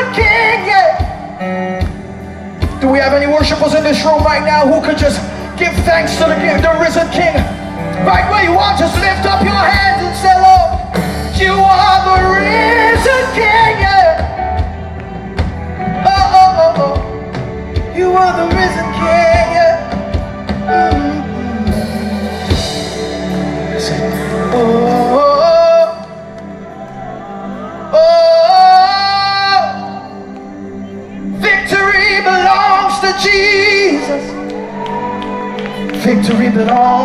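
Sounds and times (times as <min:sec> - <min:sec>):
gospel worship music: 0:00.0 - 0:37.0
person singing: 0:00.0 - 0:37.0.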